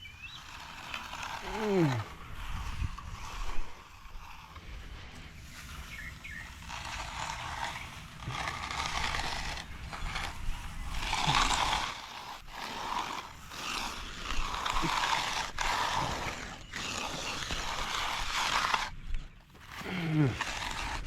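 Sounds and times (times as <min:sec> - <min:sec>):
hand tool scraping wet concrete: 0:00.0 - 0:21.0.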